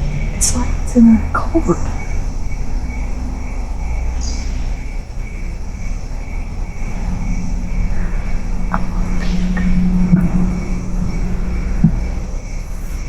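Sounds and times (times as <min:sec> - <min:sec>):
insect chirping: 0:00.0 - 0:13.0
low hum: 0:00.0 - 0:13.0
low rumble: 0:00.0 - 0:13.0.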